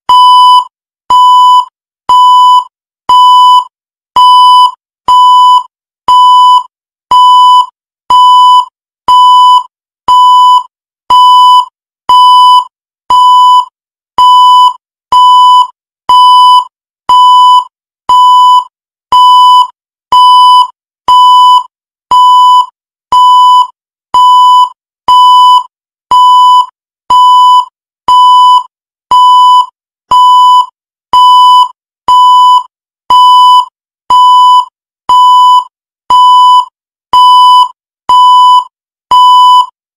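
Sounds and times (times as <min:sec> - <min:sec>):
countdown timer beeps: 0:00.1 - 0:39.7.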